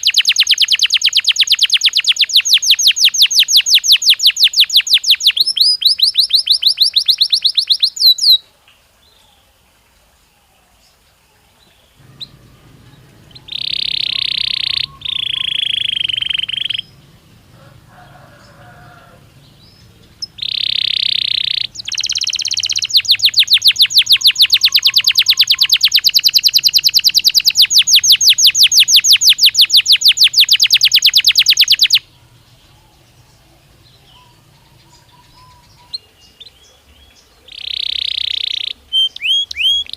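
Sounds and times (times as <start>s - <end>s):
canary singing: 0.0s - 8.4s, 11.8s - 39.9s.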